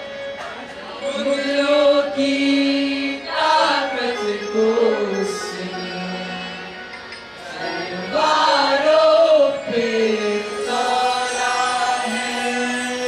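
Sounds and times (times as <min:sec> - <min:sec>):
children's choir singing: 0:00.9 - 0:06.7, 0:07.4 - 0:13.0.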